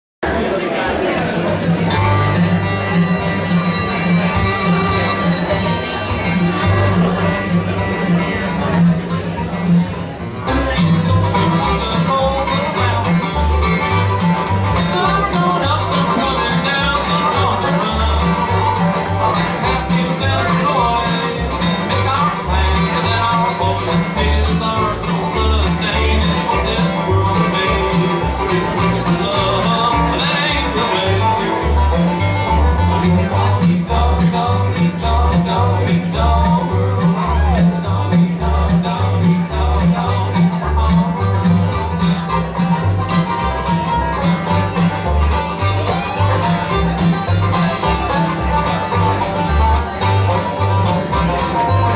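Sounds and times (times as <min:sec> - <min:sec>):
acoustic guitar: 0:00.2 - 0:51.9
banjo: 0:00.2 - 0:51.9
fiddle: 0:01.1 - 0:51.9
upright bass pulsing: 0:01.6 - 0:51.9.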